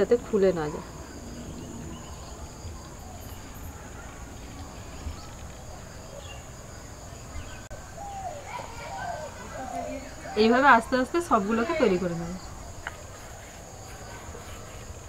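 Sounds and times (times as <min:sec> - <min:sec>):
crickets chirping: 0:00.0 - 0:15.0
faint low outdoor rumble: 0:00.0 - 0:15.0.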